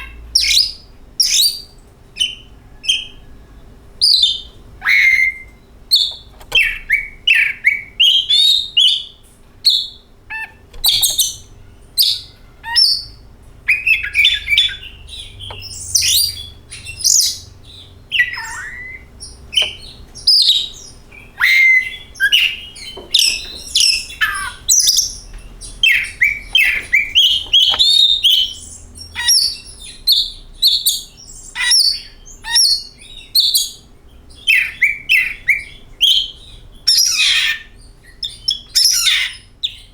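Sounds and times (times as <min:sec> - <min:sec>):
bird singing whistles and chirps: 0:04.0 - 0:39.9.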